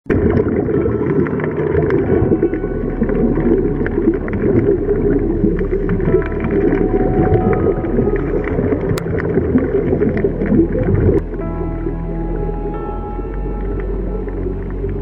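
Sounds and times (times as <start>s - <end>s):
underwater low rumble: 0.0s - 15.0s.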